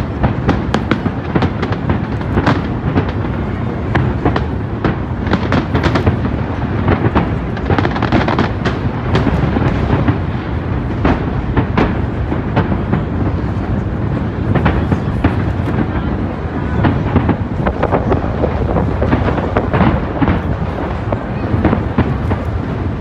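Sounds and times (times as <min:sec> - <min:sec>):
fireworks bangs and crackles: 0:00.0 - 0:23.0
fireworks booming: 0:00.0 - 0:23.0.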